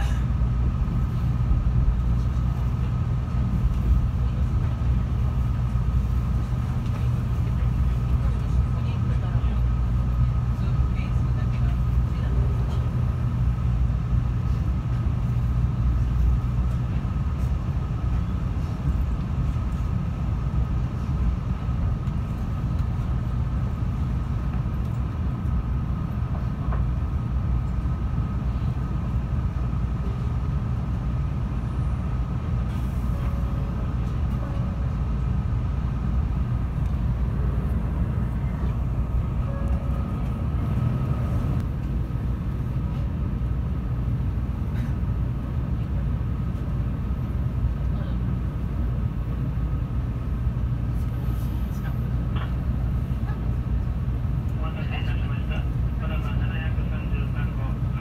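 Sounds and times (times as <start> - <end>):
train interior rumble: 0.0 - 58.0.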